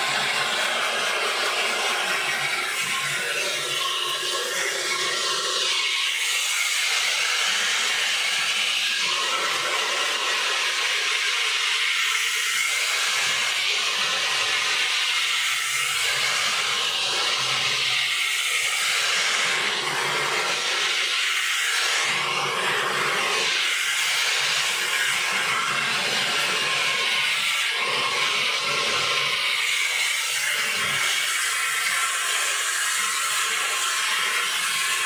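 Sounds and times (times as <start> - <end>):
hair dryer blowing: 0.0 - 35.0.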